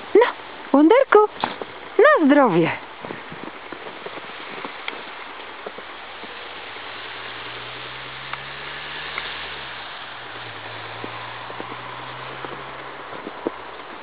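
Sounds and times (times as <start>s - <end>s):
vehicle engine hum: 0.0s - 14.0s
footsteps crunching in snow: 1.3s - 14.0s.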